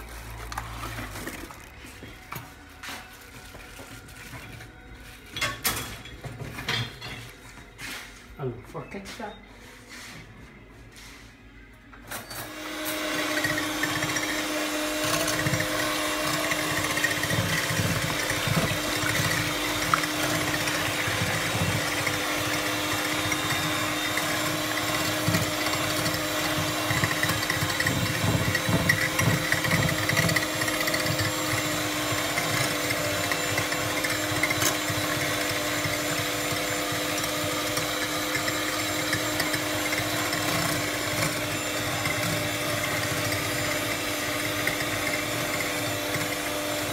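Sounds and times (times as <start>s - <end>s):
electric hand mixer whisking eggs: 0.0s - 4.6s, 12.3s - 46.9s.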